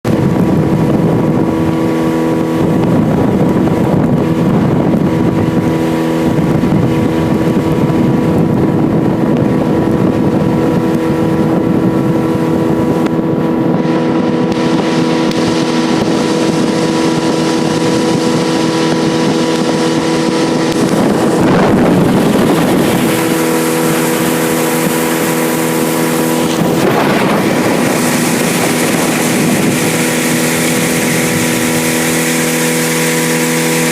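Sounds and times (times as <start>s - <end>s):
outboard motor hum: 0.0s - 33.9s
water rushing: 0.0s - 33.9s
wind on microphone: 0.0s - 33.9s.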